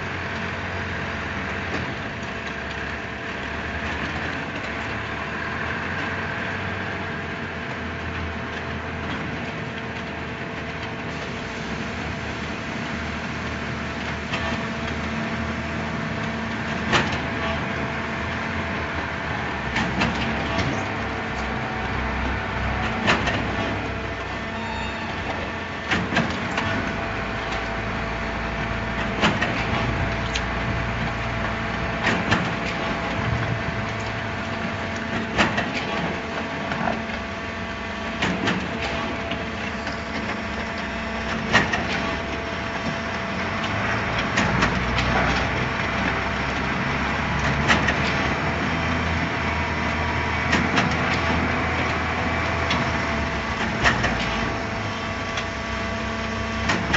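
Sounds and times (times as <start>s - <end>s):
concrete mixer pump humming: 0.0s - 56.9s.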